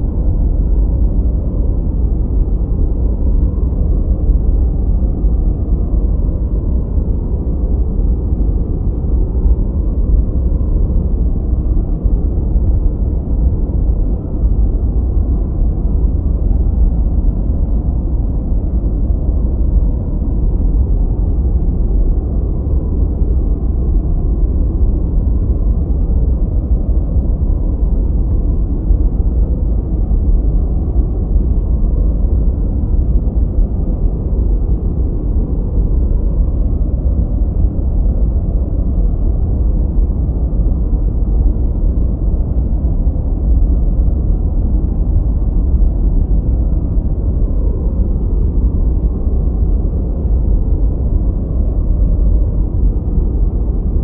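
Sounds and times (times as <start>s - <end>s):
deep muffled rushing noise: 0.0s - 54.0s.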